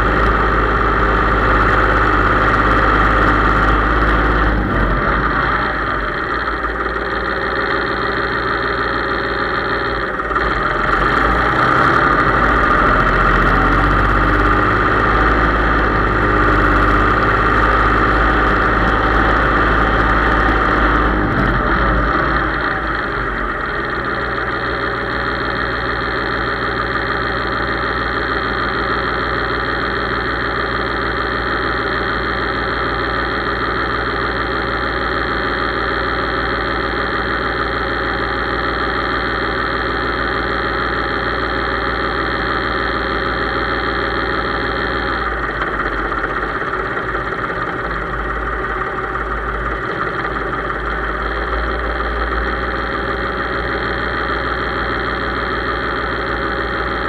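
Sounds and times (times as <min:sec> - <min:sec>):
high whine: 0:00.0 - 0:57.0
tractor engine running: 0:00.0 - 0:57.0.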